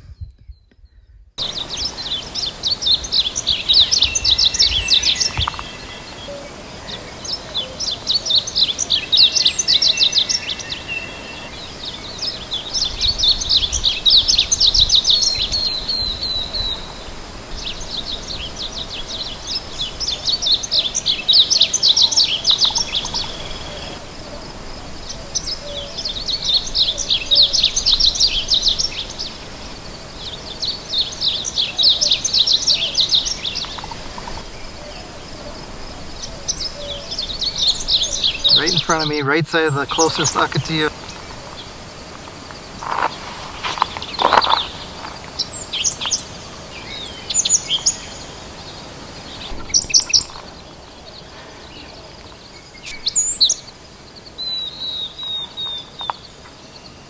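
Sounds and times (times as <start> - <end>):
bird singing high warble: 0.2 - 57.0.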